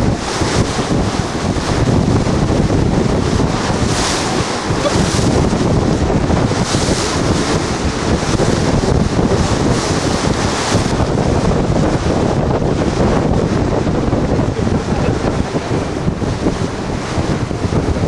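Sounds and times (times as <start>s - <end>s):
sea water rushing and splashing: 0.0s - 18.0s
wind buffeting microphone: 0.0s - 18.0s.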